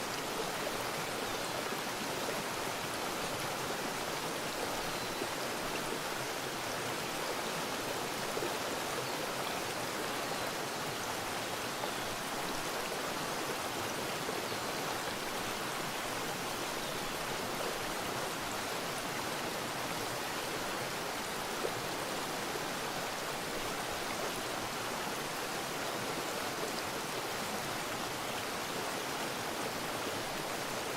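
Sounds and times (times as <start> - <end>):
creek water over rocks: 0.0 - 30.9.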